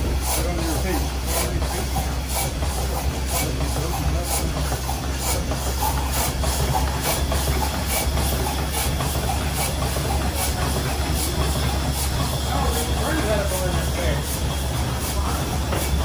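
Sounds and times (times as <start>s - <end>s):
steam engine running: 0.0s - 16.0s
steam hissing: 0.0s - 16.0s.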